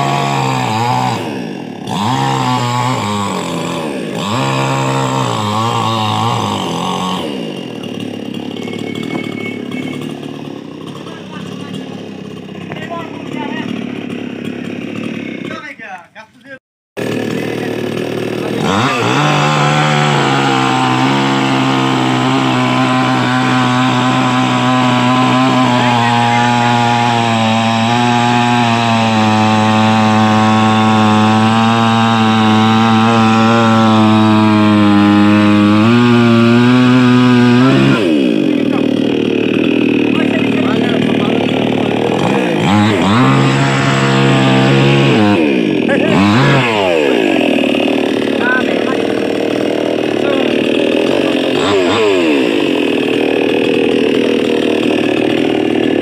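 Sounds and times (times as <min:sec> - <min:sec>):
chainsaw cutting a log: 0:00.0 - 0:16.2, 0:17.0 - 0:56.0.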